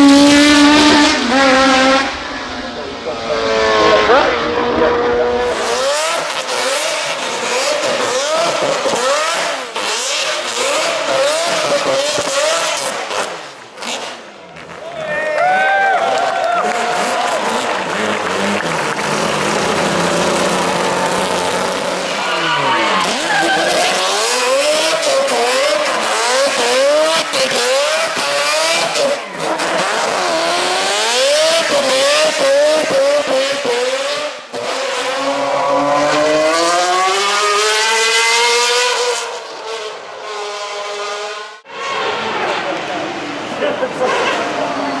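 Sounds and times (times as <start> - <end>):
racing car engine revving: 0.0 - 45.0.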